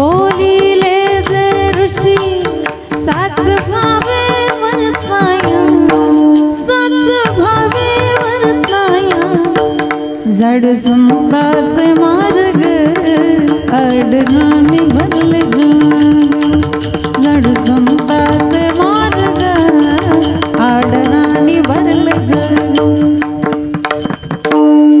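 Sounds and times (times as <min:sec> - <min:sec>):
hand-drum beats: 0:00.0 - 0:25.0.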